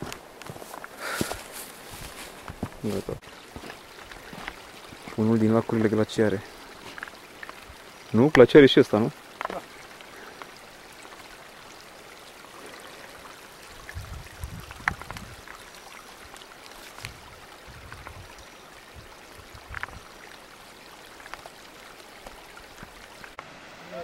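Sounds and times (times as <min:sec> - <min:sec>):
distant running water: 0:00.0 - 0:24.0.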